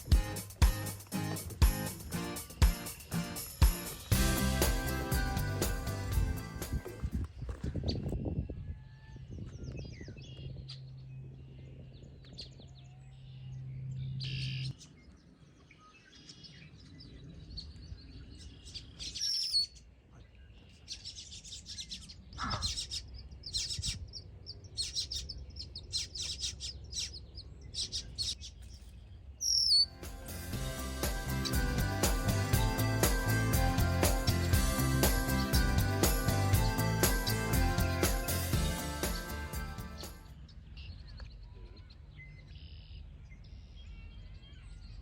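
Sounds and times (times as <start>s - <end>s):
birds chirping: 0.0s - 8.5s, 9.4s - 45.0s.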